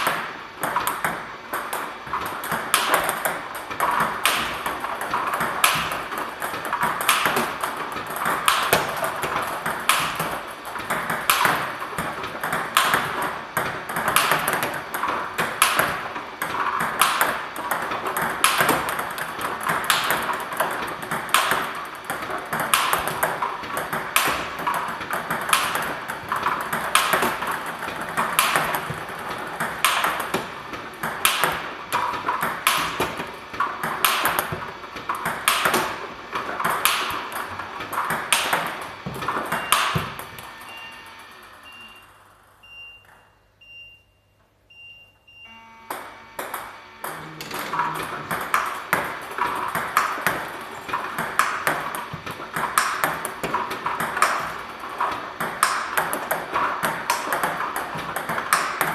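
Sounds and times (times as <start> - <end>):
ping-pong ball clicks: 0.0 - 40.8, 45.9 - 58.9.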